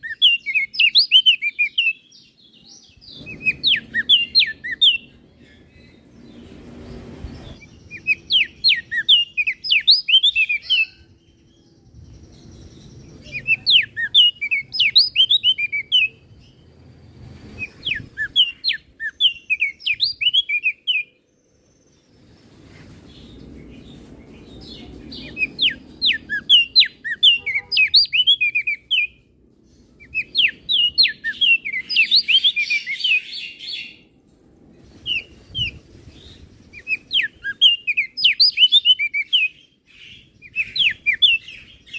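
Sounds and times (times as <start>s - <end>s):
bird singing high falling chirps: 0.0s - 22.4s, 23.1s - 29.2s, 29.9s - 34.0s, 35.0s - 41.9s.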